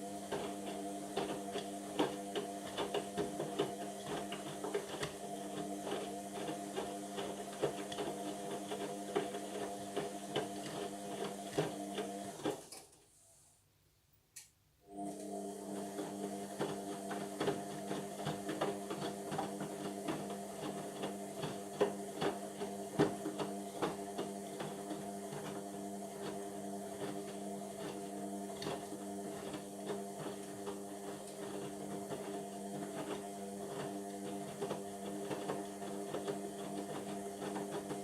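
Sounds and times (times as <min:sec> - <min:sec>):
washing machine motor hum: 0:00.0 - 0:12.7, 0:14.9 - 0:38.0.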